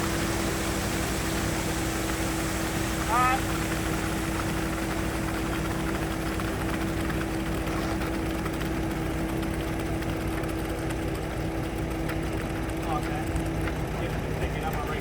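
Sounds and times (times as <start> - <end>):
machine engine droning: 0.0 - 15.0.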